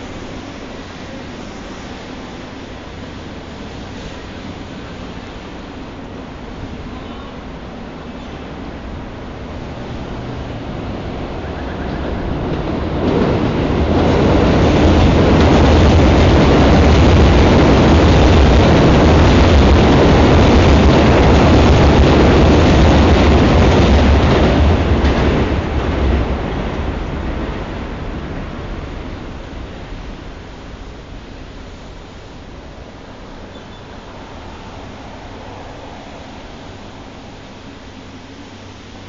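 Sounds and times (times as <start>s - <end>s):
train rumbling over steel bridge: 0.0s - 39.0s.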